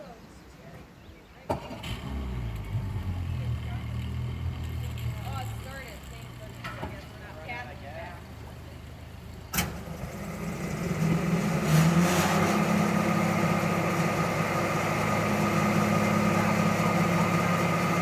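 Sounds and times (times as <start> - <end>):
engine idling: 1.6 - 18.0.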